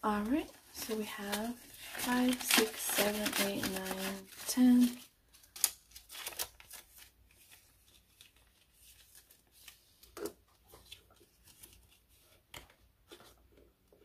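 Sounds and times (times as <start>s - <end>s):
banknotes rustling in plastic envelope: 0.0s - 12.4s.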